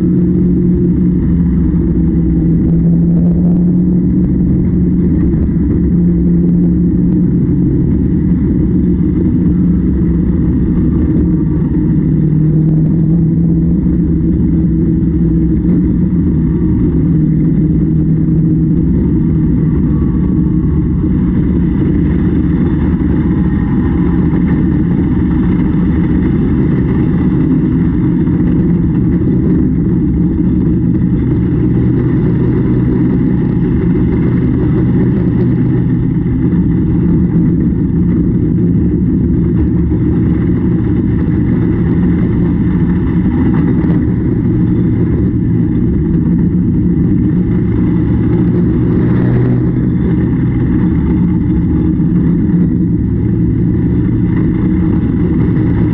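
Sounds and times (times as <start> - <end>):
farm machine engine drone: 0.0 - 55.9.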